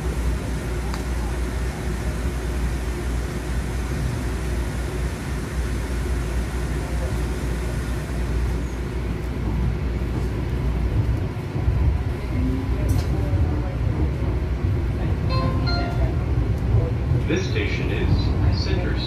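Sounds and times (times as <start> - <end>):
light rail car rumbling: 0.0 - 19.0.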